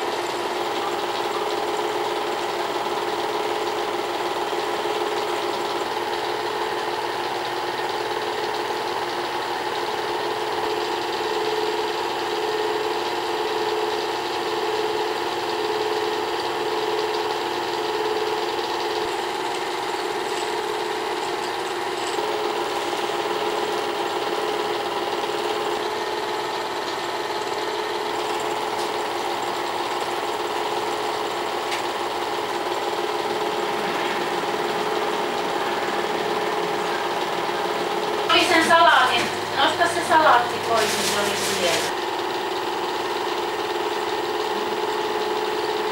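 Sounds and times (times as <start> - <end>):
film projector mechanical hum: 0.0 - 45.9.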